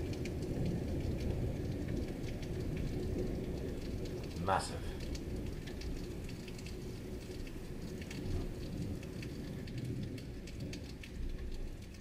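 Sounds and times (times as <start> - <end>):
rain hissing: 0.0 - 12.0
raindrops ticking on a surface: 0.0 - 12.0.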